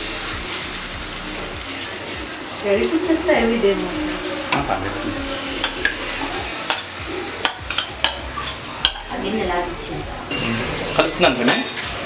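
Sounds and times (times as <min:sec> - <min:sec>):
prawns sizzling in a pan: 0:00.0 - 0:12.0.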